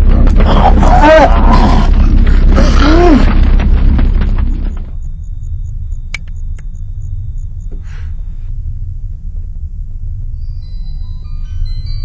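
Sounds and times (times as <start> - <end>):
low cinematic rumble: 0.0 - 12.0.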